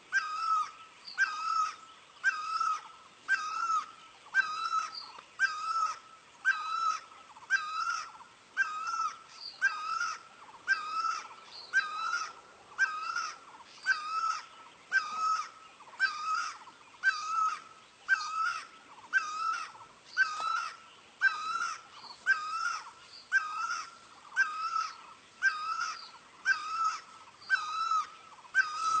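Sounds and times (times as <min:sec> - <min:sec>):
barbet calling: 0:00.1 - 0:29.0.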